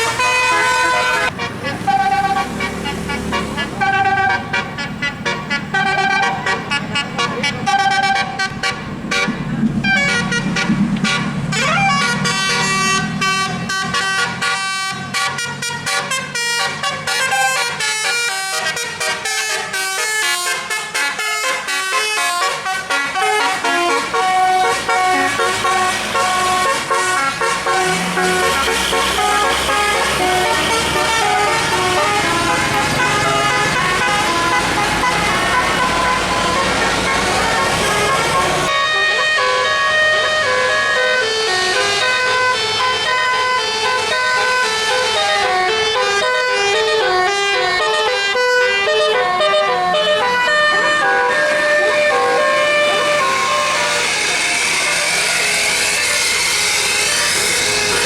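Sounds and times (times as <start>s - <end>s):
bus engine running: 0.0s - 58.0s
bus multi-tone horn melody: 0.0s - 58.0s.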